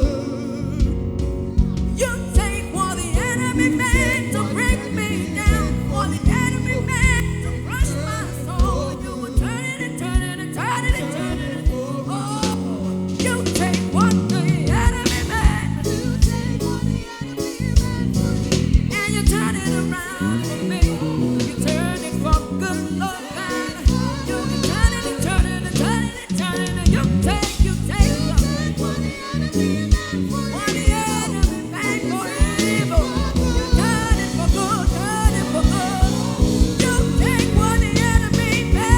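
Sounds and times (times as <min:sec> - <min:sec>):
gospel worship band music: 0:00.0 - 0:38.9
people singing: 0:00.0 - 0:38.9
steady drum beat: 0:00.0 - 0:38.9.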